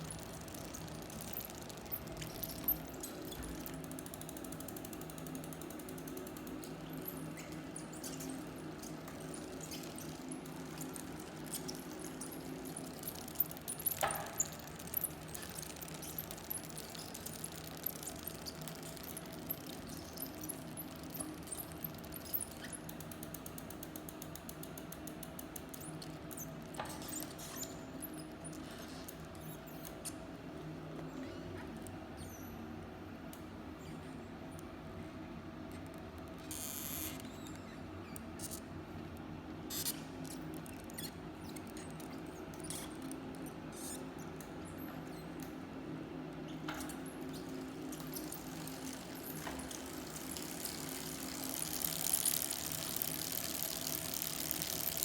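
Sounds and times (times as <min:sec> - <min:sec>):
bike clicking and squeaking: 0:00.0 - 0:30.2, 0:36.4 - 0:38.6, 0:39.7 - 0:45.6, 0:46.4 - 0:55.0.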